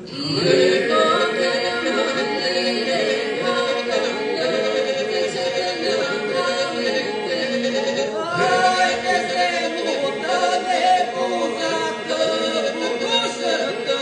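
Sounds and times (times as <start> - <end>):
unaccompanied group folk singing: 0.0 - 14.0.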